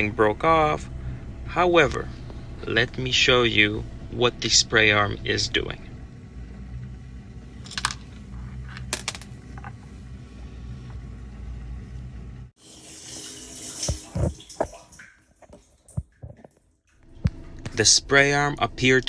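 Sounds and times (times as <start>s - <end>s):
dishwasher pump hum: 0.0s - 14.8s, 17.0s - 19.0s.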